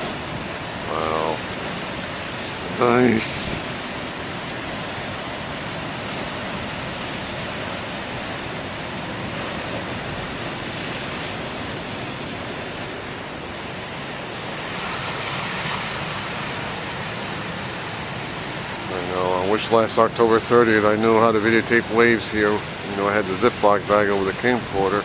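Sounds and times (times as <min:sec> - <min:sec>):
waves breaking on shore: 0:00.0 - 0:25.0.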